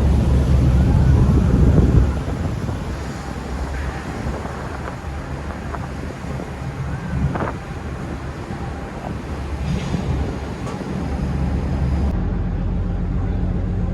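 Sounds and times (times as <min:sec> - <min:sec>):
wind buffeting microphone: 0:00.0 - 0:12.5
marine engines rumbling: 0:00.0 - 0:13.9.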